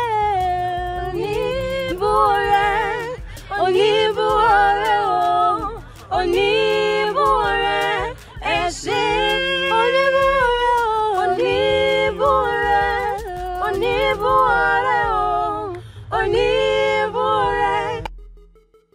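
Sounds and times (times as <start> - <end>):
voices singing a cappella: 0.0 - 18.1.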